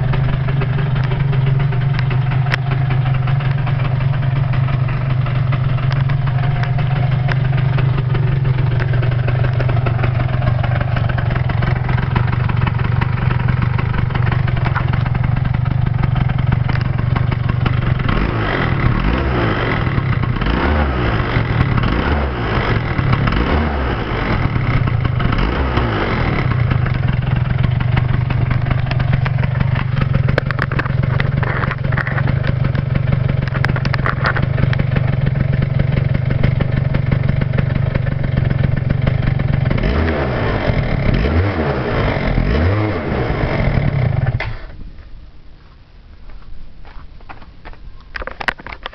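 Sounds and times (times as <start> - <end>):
scooter engine revving: 0.0 - 44.7
scooter engine idling: 0.0 - 44.8.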